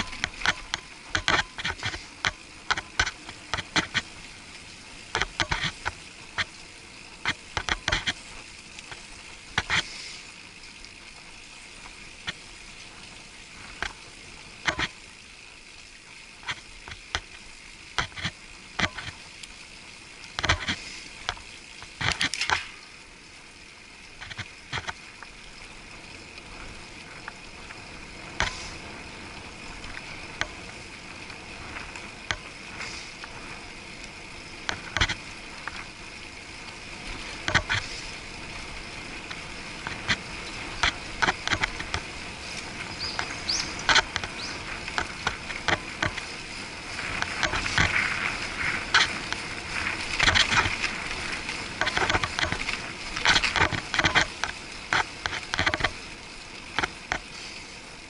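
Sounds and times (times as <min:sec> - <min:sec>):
muffled bicycle riding noise: 0:00.0 - 0:58.0.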